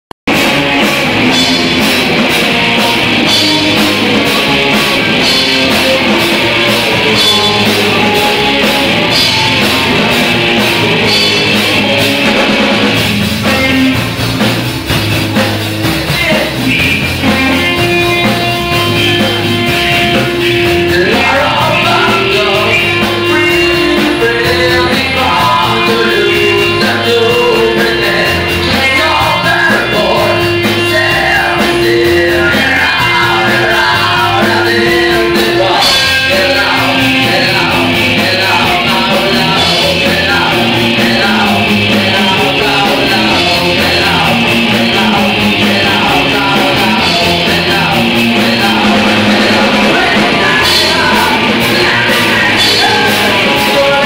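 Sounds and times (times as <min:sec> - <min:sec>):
drum kit with cymbal beat: 0:00.3 - 0:54.0
person singing: 0:00.7 - 0:14.1, 0:15.8 - 0:54.0.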